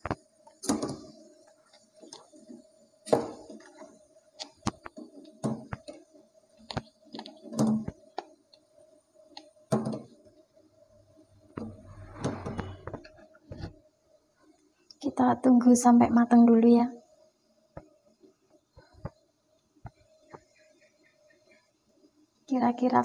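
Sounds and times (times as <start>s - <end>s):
faint steady hissing: 0.0s - 23.0s.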